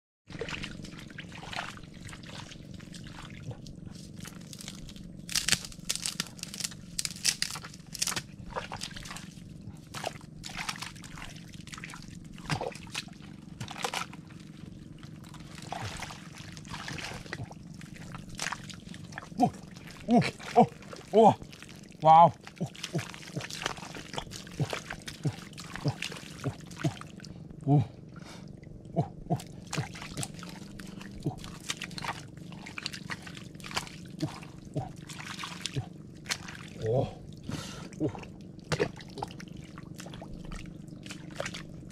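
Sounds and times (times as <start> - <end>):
wet mud squelching: 0.3 - 28.4, 29.0 - 41.9.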